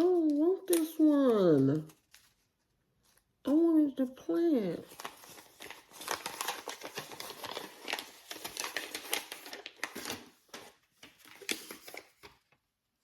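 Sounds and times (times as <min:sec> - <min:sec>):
packaging crinkling and rustling: 0:00.0 - 0:03.3, 0:04.8 - 0:12.6.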